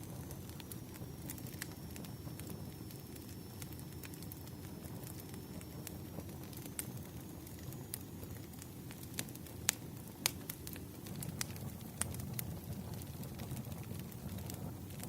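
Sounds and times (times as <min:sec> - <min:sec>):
fire popping and snapping: 0:00.0 - 0:15.0
low rumble of burning fire: 0:00.0 - 0:15.0
wood fire crackling: 0:00.0 - 0:15.0.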